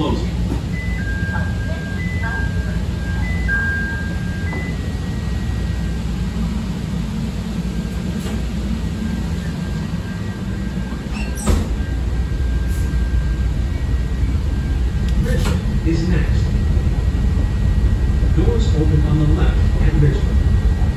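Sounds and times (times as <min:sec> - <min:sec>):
train rumbling on rails: 0:00.0 - 0:20.9.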